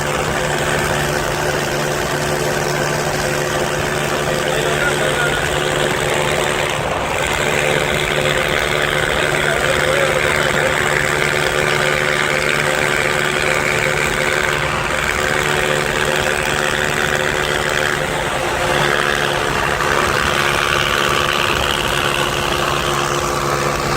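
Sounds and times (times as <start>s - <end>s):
motorcycle engines idling: 0.0s - 23.9s.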